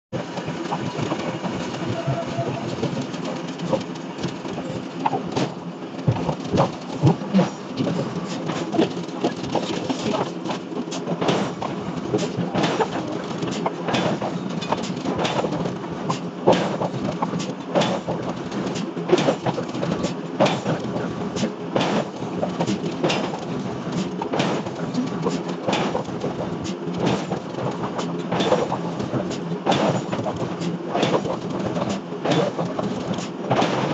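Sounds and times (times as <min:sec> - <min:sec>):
steady machine hum: 0:00.2 - 0:33.9.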